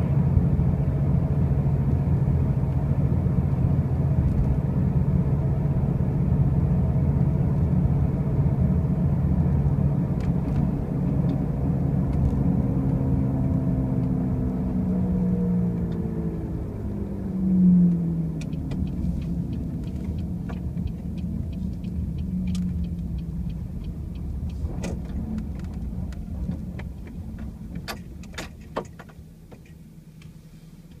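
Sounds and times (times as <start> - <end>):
car droning hum: 0.0 - 31.0.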